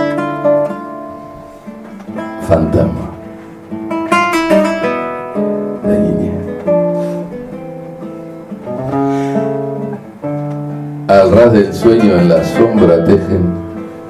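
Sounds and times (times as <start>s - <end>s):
acoustic guitar plucking: 0.0s - 14.0s.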